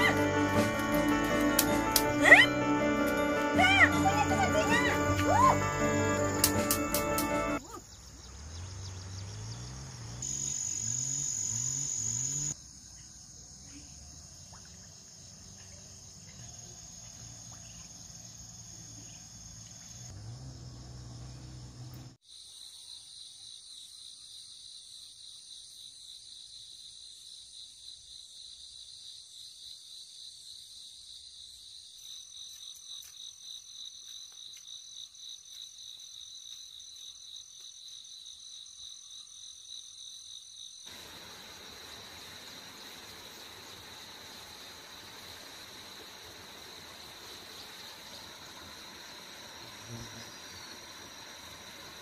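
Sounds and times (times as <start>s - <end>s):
insects chirring: 3.7s - 52.0s.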